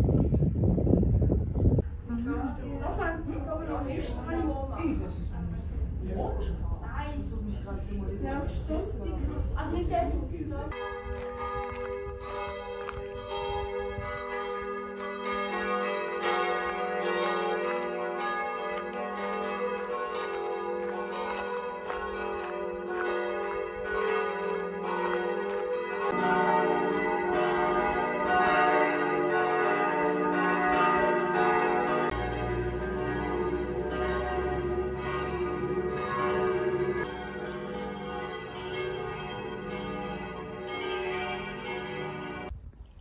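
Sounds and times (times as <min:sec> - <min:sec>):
bells ringing: 0:07.4 - 0:42.5.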